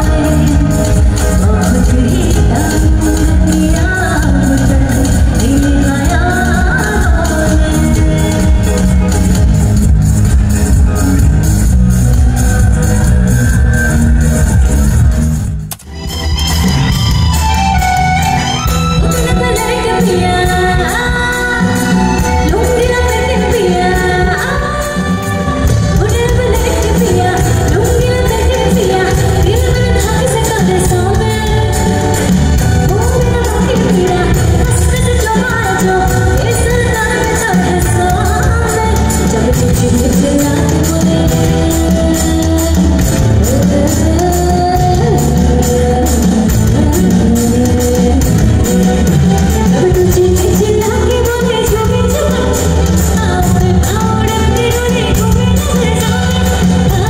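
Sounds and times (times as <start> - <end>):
woman singing: 0.0 - 10.9, 17.7 - 57.0
keyboards: 0.0 - 57.0
live pop band music: 0.0 - 57.0.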